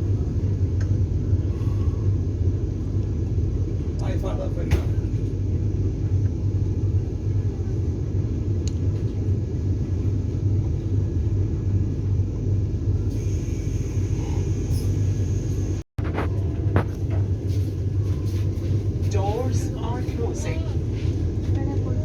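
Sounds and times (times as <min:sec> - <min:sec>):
low rumble inside train coach: 0:00.0 - 0:22.0.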